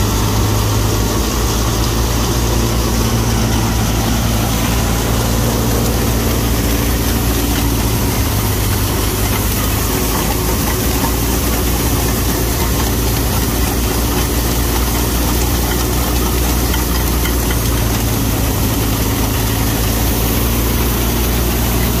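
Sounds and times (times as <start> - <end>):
tractor engine hum: 0.0 - 22.0.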